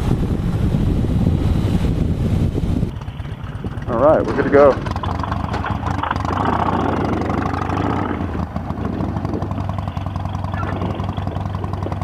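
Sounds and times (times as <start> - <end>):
motorcycle engine riding off: 0.1 - 12.0.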